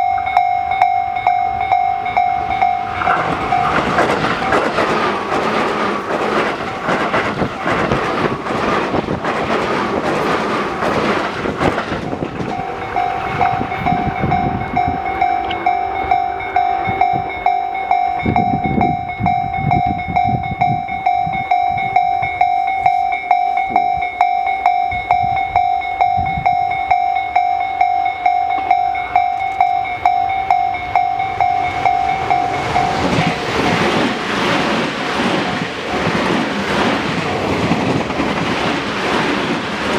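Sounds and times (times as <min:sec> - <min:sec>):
crossing warning bell ringing: 0:00.0 - 0:39.9
train rolling on rails: 0:00.0 - 0:39.9.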